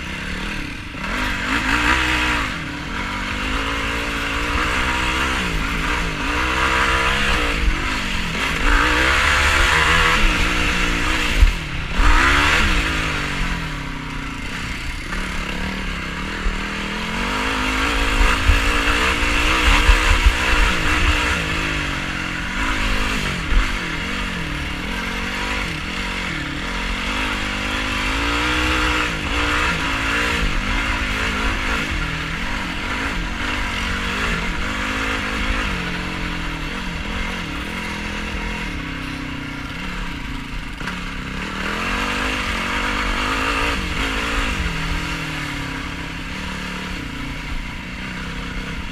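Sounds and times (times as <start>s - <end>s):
quad engine revving: 0.0s - 48.9s
steady rushing noise: 0.0s - 48.9s.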